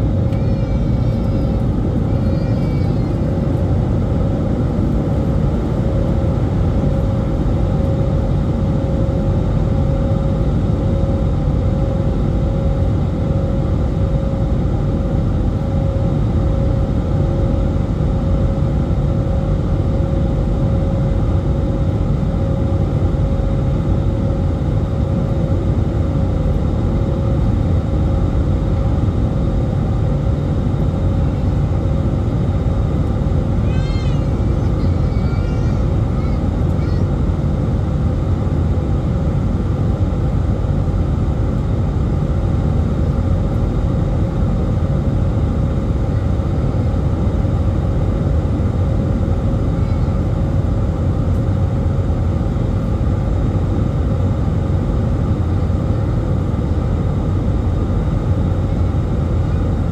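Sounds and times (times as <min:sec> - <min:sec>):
airplane cabin rumble: 0:00.0 - 0:59.9
steady cabin hum: 0:00.0 - 0:59.9.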